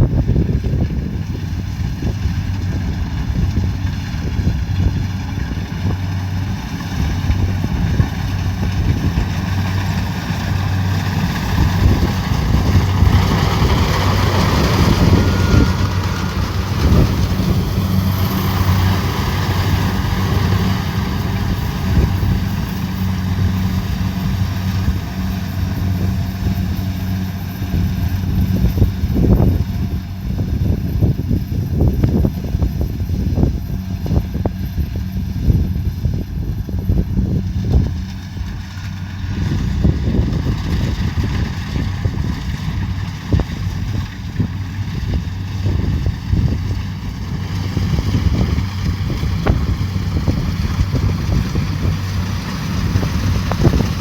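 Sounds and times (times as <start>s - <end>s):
combine harvester diesel drone: 0.0s - 54.0s.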